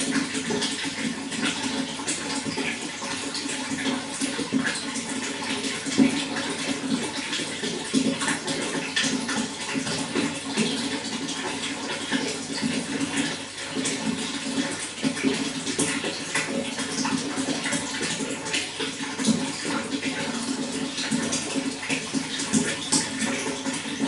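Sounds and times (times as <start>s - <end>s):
running water splashing: 0.0s - 24.0s.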